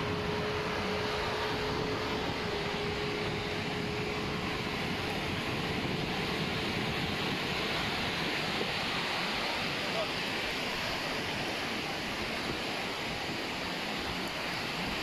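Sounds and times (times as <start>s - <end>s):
distant engine drone: 0.0s - 15.0s
surf: 0.0s - 15.0s
wind: 0.0s - 15.0s.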